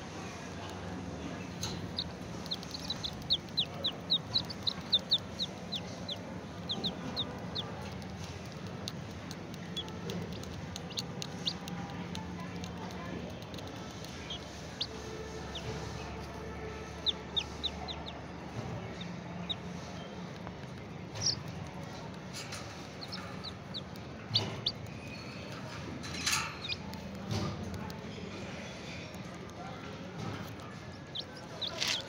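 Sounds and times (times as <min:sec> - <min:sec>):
baby chicks peeping: 0:00.2 - 0:32.0.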